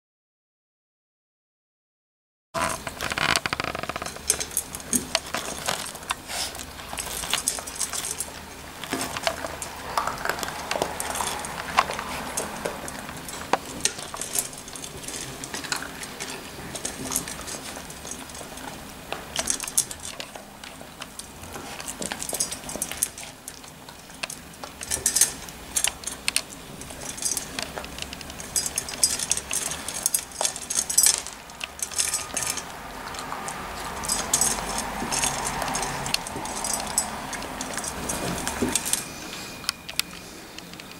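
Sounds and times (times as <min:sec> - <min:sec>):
kibble rattling in metal bowl: 0:02.6 - 0:39.1.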